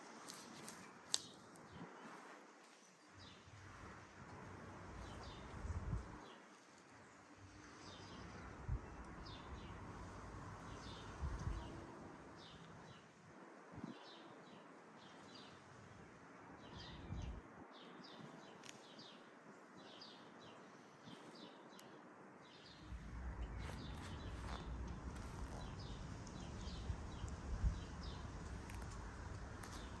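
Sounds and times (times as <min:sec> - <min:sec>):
small birds chirping: 0:00.3 - 0:13.1, 0:16.6 - 0:30.0.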